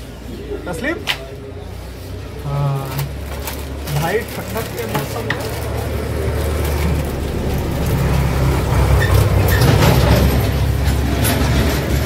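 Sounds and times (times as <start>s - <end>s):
vehicle engine rumble: 1.6s - 12.0s.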